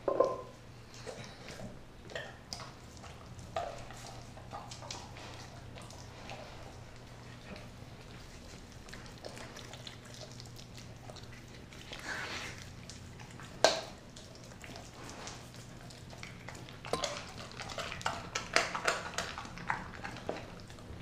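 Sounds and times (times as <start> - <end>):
dog licking and chewing meat: 0.5 - 21.0.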